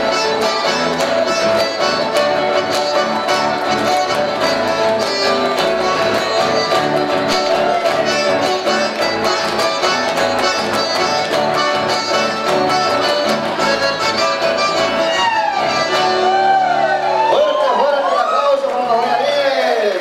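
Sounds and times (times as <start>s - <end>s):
accordions playing melody: 0.0s - 17.0s
strummed acoustic guitars: 0.0s - 17.0s
electric guitar: 0.0s - 17.7s.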